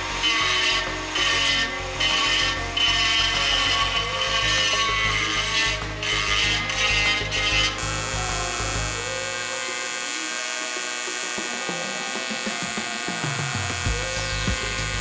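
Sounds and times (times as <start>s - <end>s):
die grinder cutting steel: 0.0s - 15.0s
welding arc humming: 0.0s - 15.0s.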